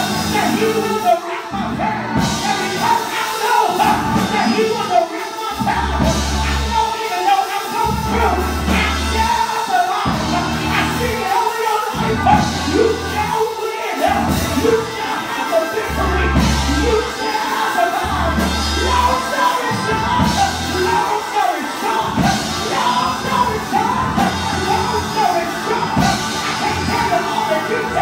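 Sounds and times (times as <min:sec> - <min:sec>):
live band music: 0:00.0 - 0:28.0.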